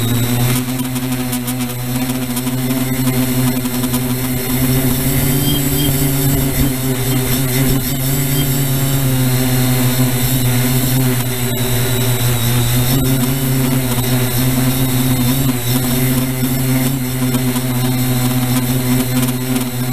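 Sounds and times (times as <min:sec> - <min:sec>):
drone propellers humming: 0:00.0 - 0:19.9.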